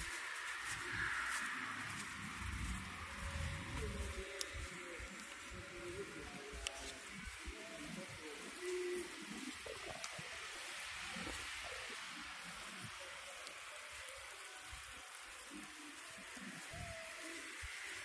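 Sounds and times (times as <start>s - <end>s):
faint distant voices: 0.0s - 18.0s
steady street hiss: 0.0s - 18.0s.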